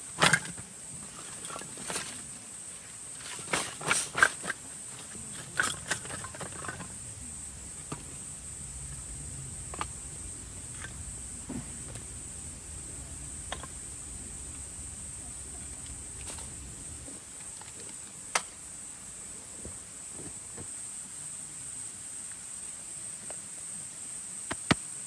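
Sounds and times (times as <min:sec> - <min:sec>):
high-pitched hiss: 0:00.0 - 0:25.0.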